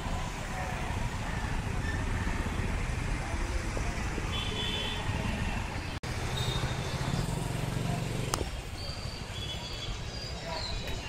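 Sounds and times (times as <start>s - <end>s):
cars and scooters passing: 0.0s - 11.0s.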